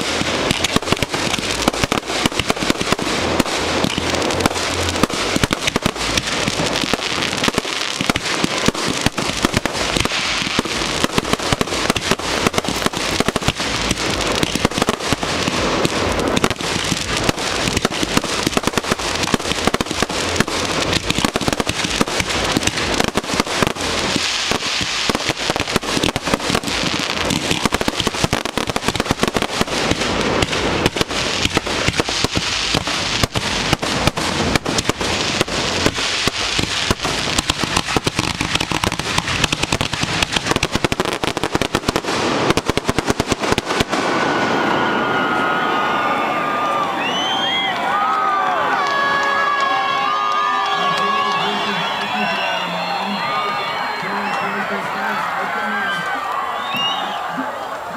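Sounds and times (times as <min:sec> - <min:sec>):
fireworks bursting and crackling: 0:00.0 - 0:57.9.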